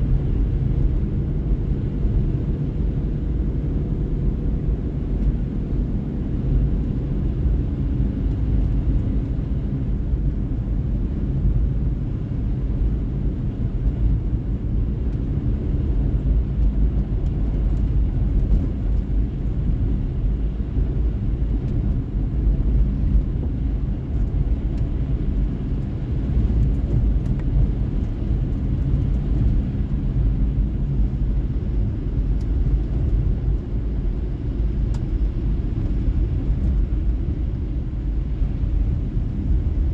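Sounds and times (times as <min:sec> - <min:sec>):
tyres rumbling on road: 0:00.0 - 0:39.9.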